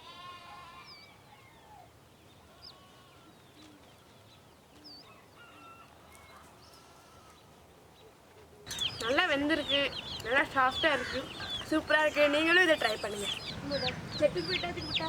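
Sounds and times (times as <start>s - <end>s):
faint bird calls: 0.2s - 15.0s.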